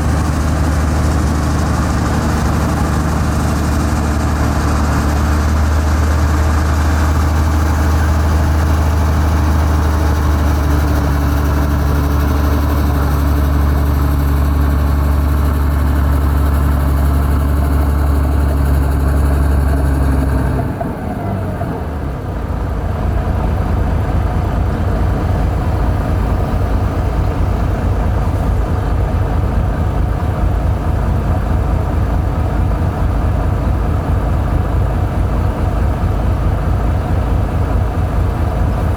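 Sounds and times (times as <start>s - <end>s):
heavy diesel engine droning: 0.0s - 38.9s
low pulsing engine note: 0.0s - 38.9s.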